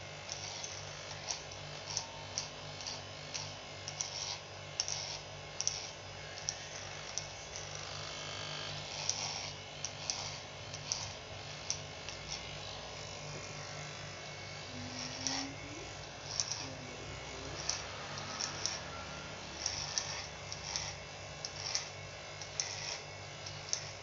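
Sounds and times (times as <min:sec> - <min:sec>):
electric hair clippers buzzing: 0:00.0 - 0:24.0.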